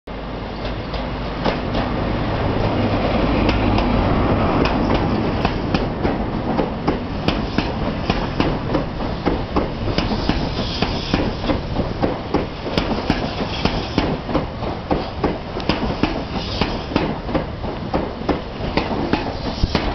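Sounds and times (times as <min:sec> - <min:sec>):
train wheels clattering over rail joints: 0:00.6 - 0:04.0, 0:04.6 - 0:19.9.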